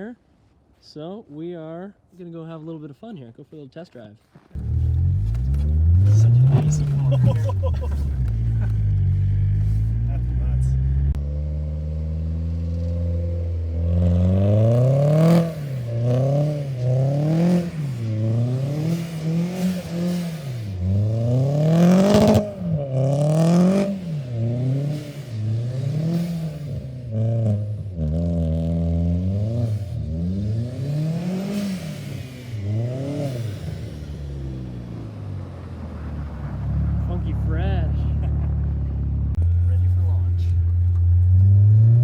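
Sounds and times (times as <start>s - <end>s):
turbocharged car engine revving: 4.6s - 42.0s.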